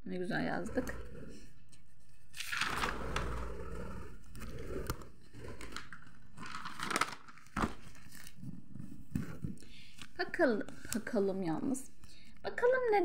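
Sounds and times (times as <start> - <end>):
rustling handling noise: 0.8 - 12.1.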